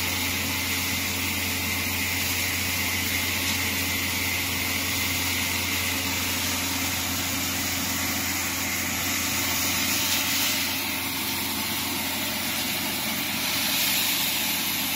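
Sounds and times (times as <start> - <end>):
continuous rushing hiss: 0.0 - 14.9.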